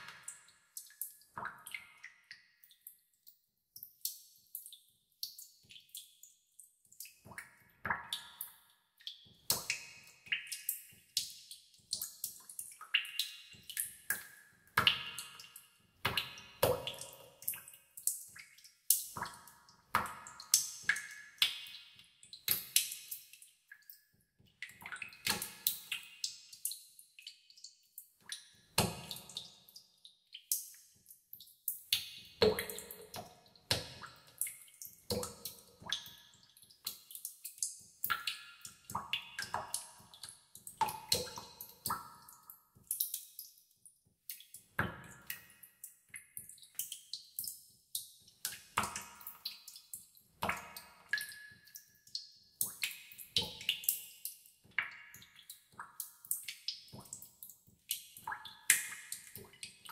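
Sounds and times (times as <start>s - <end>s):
water drops plinking into a tub: 0.0s - 43.6s, 44.3s - 59.9s.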